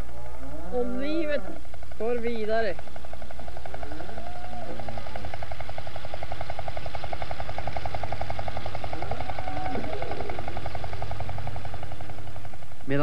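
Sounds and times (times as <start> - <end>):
machinery engine running: 0.0 - 13.0.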